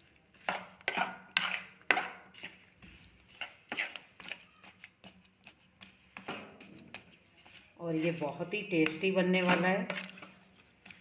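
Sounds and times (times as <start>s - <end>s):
metal spatula scraping a pan: 0.3s - 5.2s, 5.8s - 11.0s.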